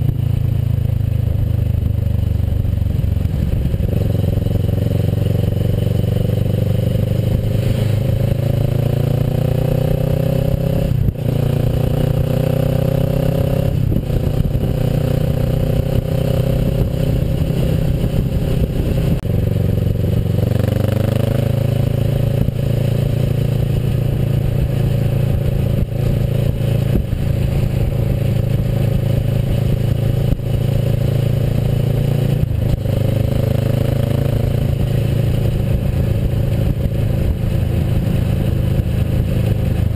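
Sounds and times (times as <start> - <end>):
low rumble: 0.0 - 39.9
motorcycle engine accelerating: 0.0 - 39.9.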